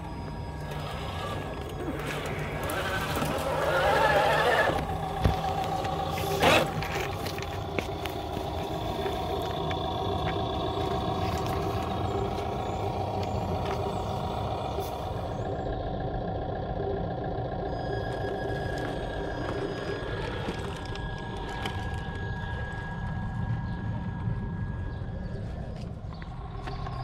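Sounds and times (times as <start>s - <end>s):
recorded engine drone from speaker: 0.0s - 27.0s
thin steady whine: 0.0s - 27.0s.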